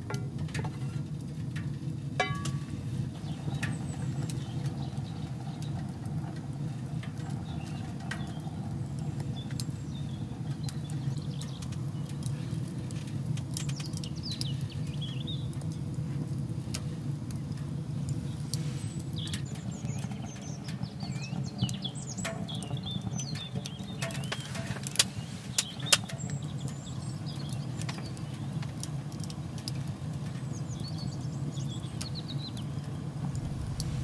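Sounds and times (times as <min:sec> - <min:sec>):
wood fire crackling in stove: 0:00.0 - 0:34.0.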